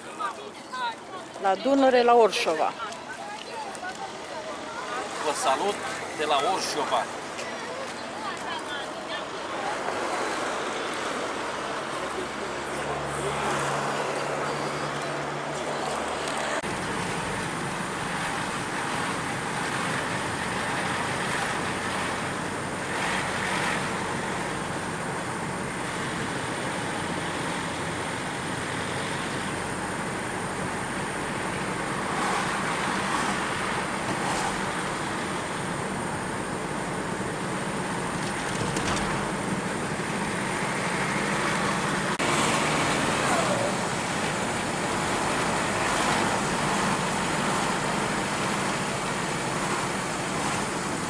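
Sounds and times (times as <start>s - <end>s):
road traffic noise: 0.0s - 51.0s.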